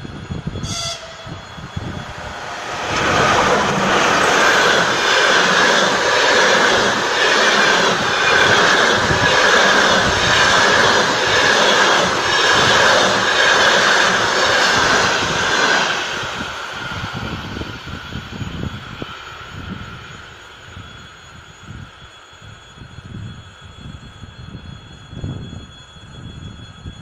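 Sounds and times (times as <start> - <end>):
train wheels rushing on rails: 0.0 - 27.0.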